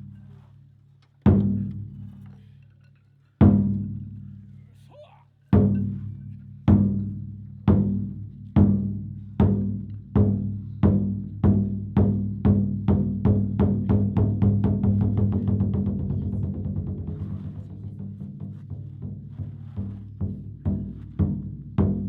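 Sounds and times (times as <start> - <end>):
taiko drums: 1.2 - 2.1, 3.4 - 4.1, 5.5 - 22.0.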